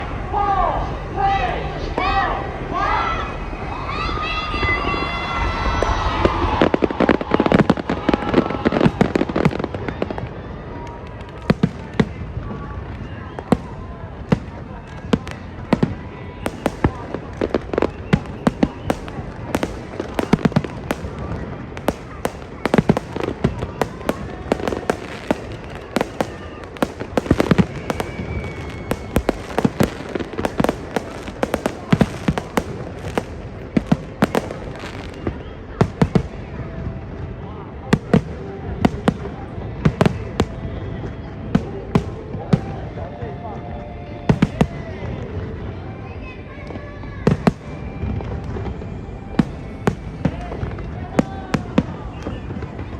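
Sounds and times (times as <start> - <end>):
continuous rumble: 0.0 - 52.9
fireworks bangs and crackling pops: 4.6 - 45.8, 46.6 - 52.9.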